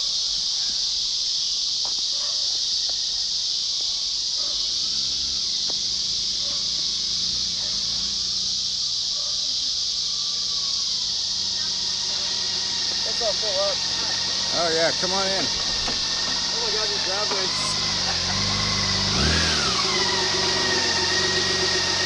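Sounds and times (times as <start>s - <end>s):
insects chirping: 0.0s - 22.0s
faint vehicle engine hum: 4.3s - 22.0s.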